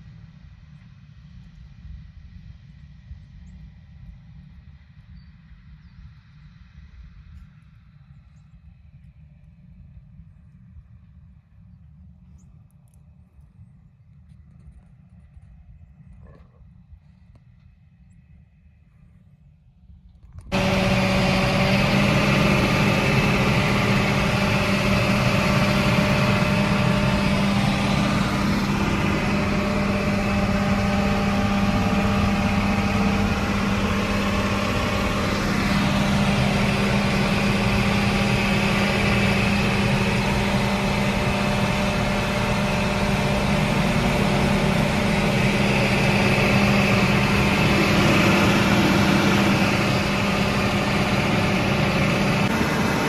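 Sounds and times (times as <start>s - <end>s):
engine drone with low hum: 0.0s - 53.0s.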